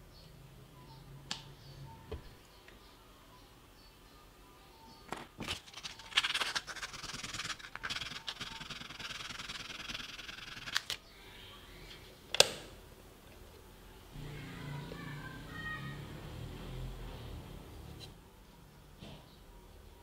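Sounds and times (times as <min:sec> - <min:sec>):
faint music: 0:00.0 - 0:20.0.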